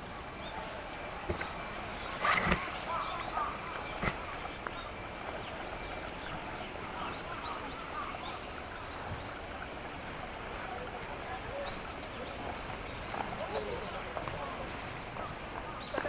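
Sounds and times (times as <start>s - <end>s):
small birds chirping: 0.0s - 9.7s, 10.6s - 16.0s
steady outdoor hiss: 0.0s - 16.0s.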